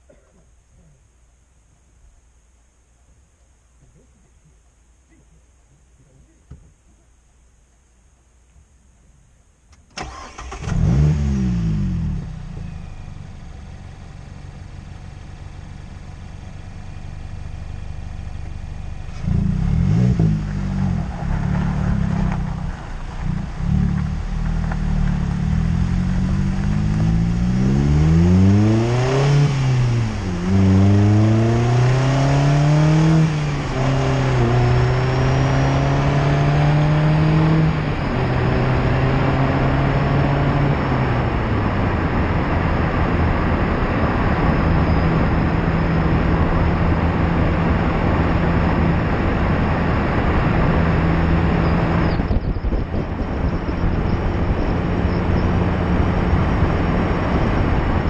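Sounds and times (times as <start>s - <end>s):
tire and road noise: 9.7s - 58.0s
car engine accelerating: 10.0s - 58.0s.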